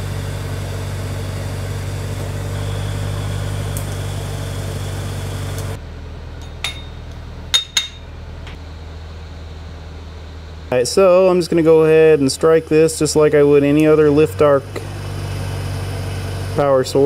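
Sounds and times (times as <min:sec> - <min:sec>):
welding arc humming and hissing: 0:00.0 - 0:08.6, 0:10.7 - 0:17.0.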